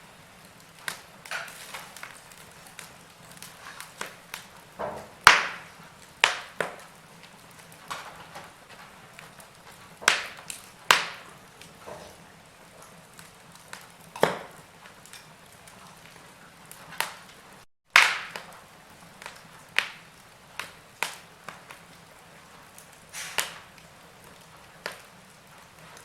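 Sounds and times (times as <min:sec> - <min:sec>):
burning logs popping and snapping: 0:00.0 - 0:26.0.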